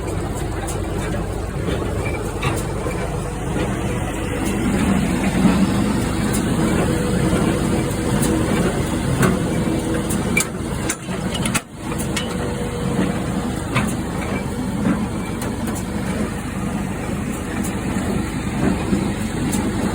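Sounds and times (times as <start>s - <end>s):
hay baler clicking: 0.0s - 19.9s
tractor engine running: 0.0s - 19.9s.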